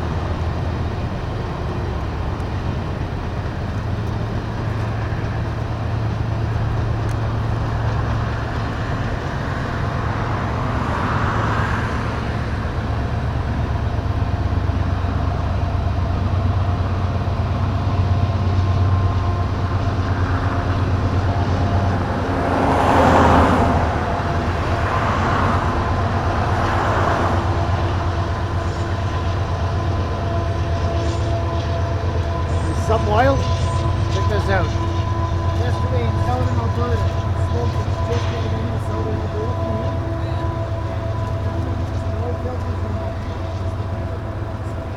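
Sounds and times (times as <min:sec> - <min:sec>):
rushing swells: 0:00.0 - 0:44.9
vehicle driving on highway: 0:00.0 - 0:44.9.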